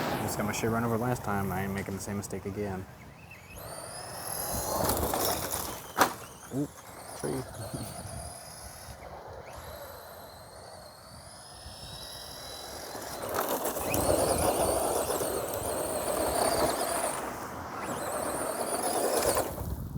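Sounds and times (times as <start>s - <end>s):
faint high whine: 0.0s - 19.5s.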